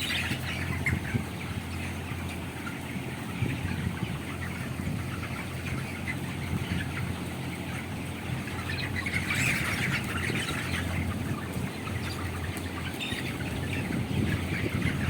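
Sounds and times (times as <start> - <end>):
chickens chirping and squawking: 0.0 - 15.0.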